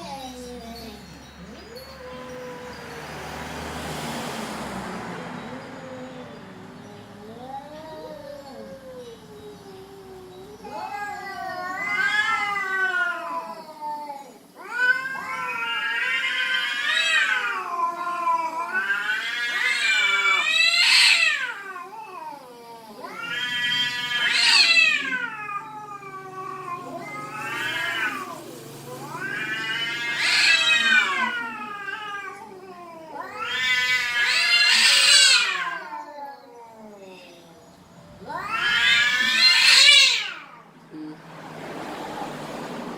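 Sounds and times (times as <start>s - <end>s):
cats caterwauling: 0.0s - 42.7s.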